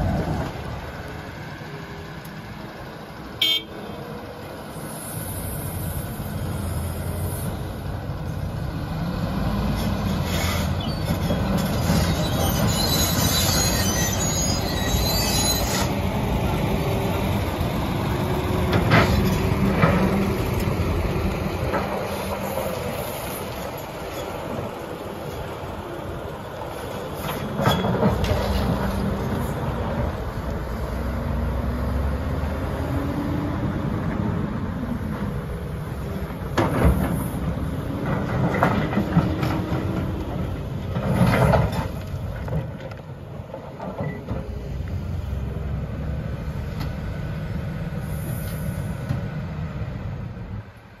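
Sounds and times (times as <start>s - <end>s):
excavator diesel engine under load: 0.0s - 51.0s.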